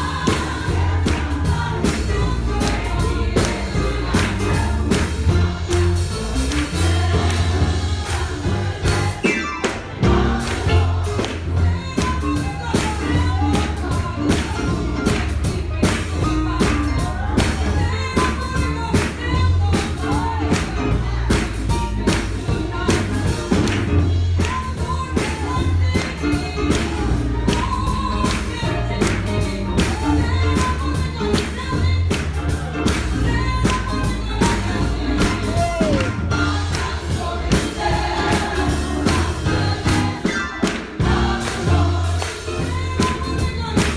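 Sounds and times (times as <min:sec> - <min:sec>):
heavy bass line: 0:00.0 - 0:09.2, 0:10.0 - 0:40.3, 0:41.0 - 0:43.9
congregation singing gospel: 0:00.0 - 0:43.9
steady percussive beat: 0:00.0 - 0:43.9.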